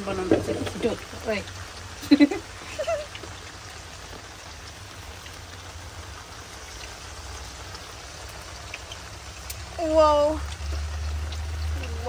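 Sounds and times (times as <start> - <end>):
fritters sizzling in hot oil: 0.0 - 12.0.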